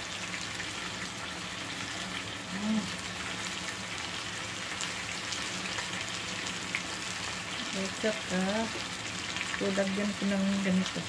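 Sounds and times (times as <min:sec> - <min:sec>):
chicken and onions sizzling in pan: 0:00.0 - 0:11.0.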